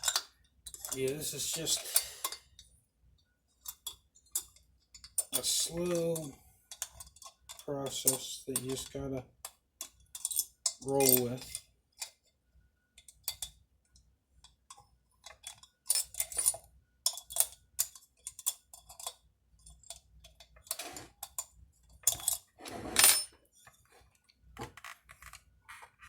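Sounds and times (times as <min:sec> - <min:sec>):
metal tools clinking and tapping: 0:00.0 - 0:02.7, 0:03.6 - 0:12.2, 0:13.0 - 0:23.8.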